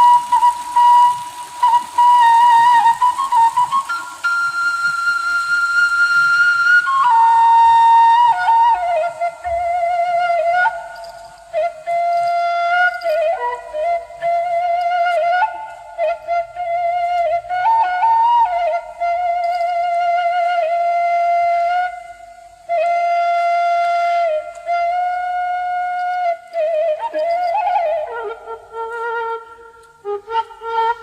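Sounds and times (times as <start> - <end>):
solo flute melody: 0.0 - 31.0.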